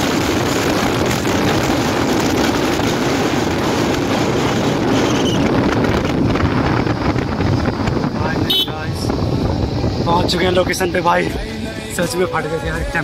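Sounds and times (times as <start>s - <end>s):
motorcycle engine running: 0.0s - 13.0s
wind rushing on microphone: 0.0s - 13.0s.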